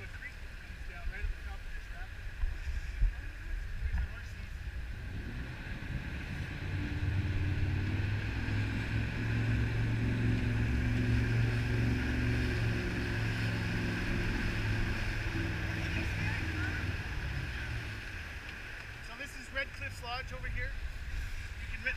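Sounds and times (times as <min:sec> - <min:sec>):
jet boat engine: 0:00.0 - 0:21.9
rush of wind and water: 0:00.0 - 0:21.9.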